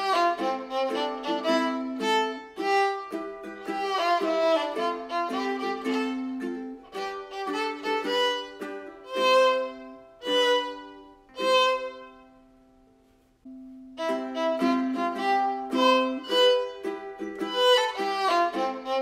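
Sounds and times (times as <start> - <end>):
instrumental music melody: 0.0 - 19.0.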